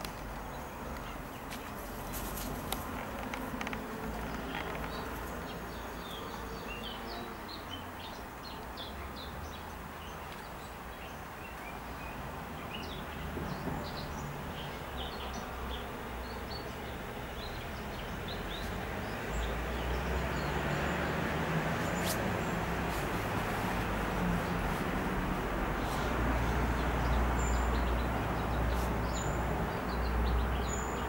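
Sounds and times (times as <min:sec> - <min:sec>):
outdoor background noise: 0:00.0 - 0:31.0
small birds chirping: 0:00.0 - 0:31.0.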